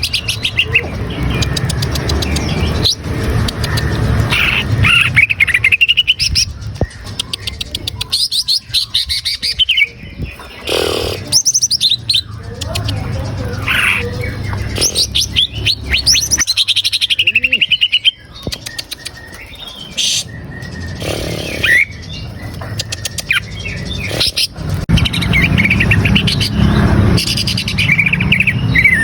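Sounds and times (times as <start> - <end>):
bird singing: 0.0 - 29.0.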